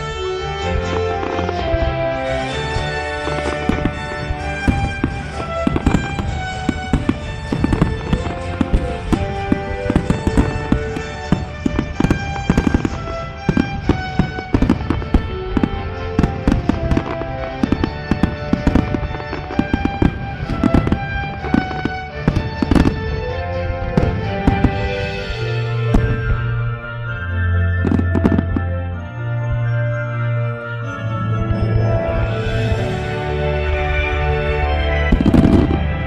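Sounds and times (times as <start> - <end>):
fireworks bangs and crackles: 0.0 - 36.0
music with sustained notes: 0.0 - 36.0.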